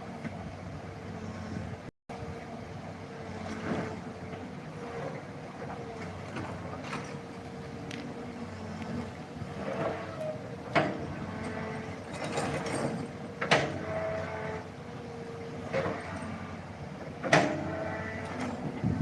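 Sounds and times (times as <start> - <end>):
excavator engine and hydraulics: 0.0 - 19.0.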